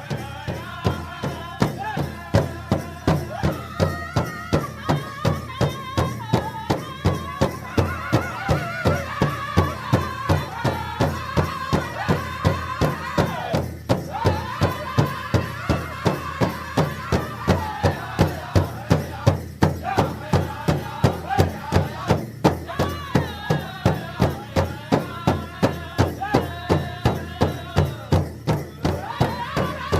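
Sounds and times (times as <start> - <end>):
drum beating steadily: 0.0 - 29.9.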